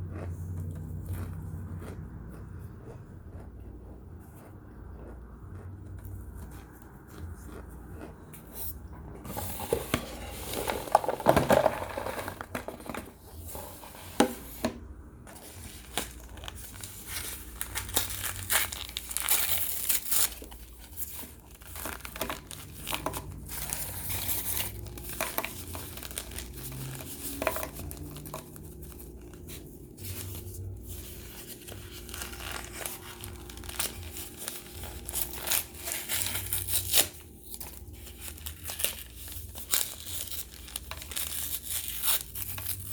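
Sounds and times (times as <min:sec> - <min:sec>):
cornstarch chunks crunching: 0:00.0 - 0:08.9, 0:15.3 - 0:42.9.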